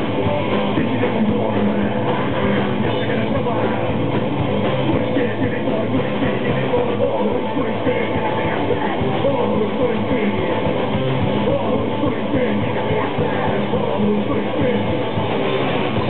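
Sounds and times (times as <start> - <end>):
bass guitar: 0.0 - 16.0
distorted electric guitars: 0.0 - 16.0
drum kit: 0.0 - 16.0.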